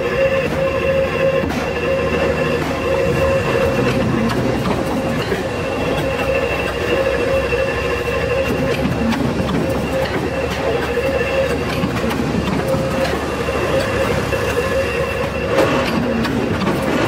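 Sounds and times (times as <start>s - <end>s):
factory machinery rumble: 0.0s - 17.0s
high machine whine: 0.0s - 17.0s.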